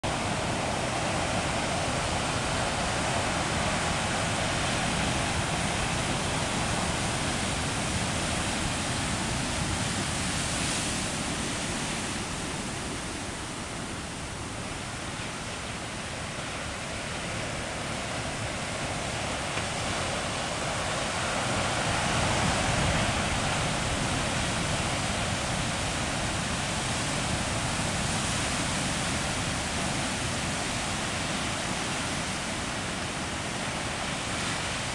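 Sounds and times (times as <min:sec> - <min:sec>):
surf crashing on rocky shore: 0:00.1 - 0:34.9.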